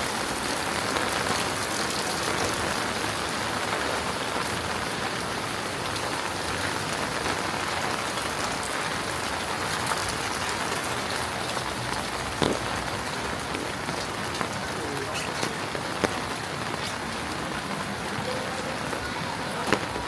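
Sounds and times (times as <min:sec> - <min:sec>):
heavy rain on hard surfaces: 0:00.0 - 0:20.0.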